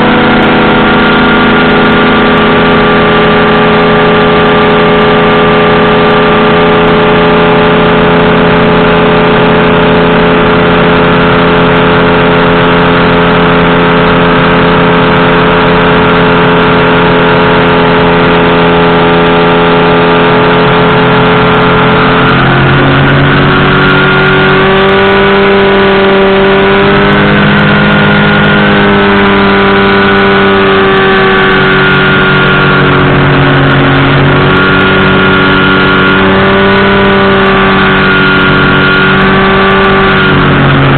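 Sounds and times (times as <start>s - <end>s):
engine and propeller running: 0.0s - 40.9s.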